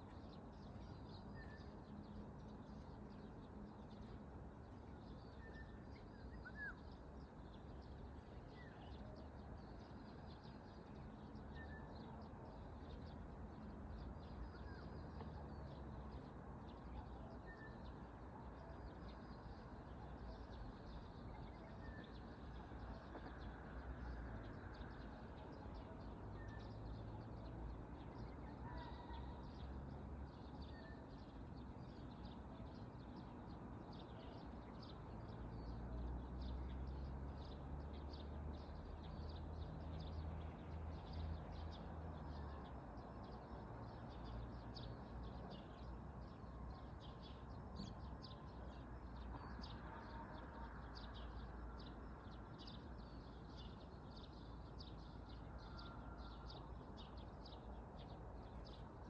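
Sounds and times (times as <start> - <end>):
faint outdoor background: 0.0 - 59.0
small birds chirping: 0.0 - 59.0.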